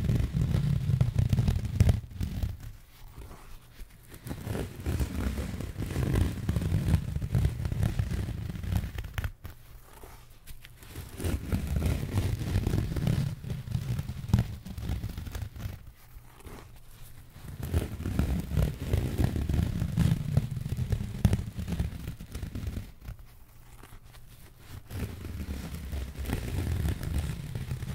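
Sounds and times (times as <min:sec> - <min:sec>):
sheet material rustling and scraping: 0:00.0 - 0:27.9.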